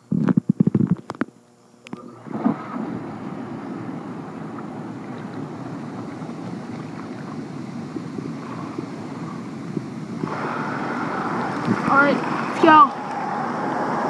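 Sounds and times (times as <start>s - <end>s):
muffled hot tub water churning: 1.8s - 14.0s.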